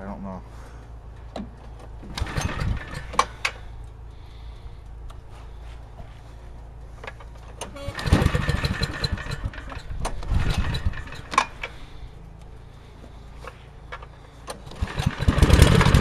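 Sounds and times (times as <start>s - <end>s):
generator engine sputtering: 1.2s - 16.0s.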